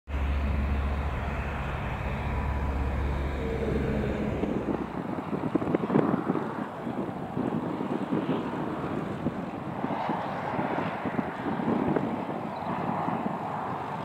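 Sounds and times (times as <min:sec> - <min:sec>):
propeller aircraft engine drone: 0:00.1 - 0:14.0
wind on microphone: 0:00.1 - 0:14.0.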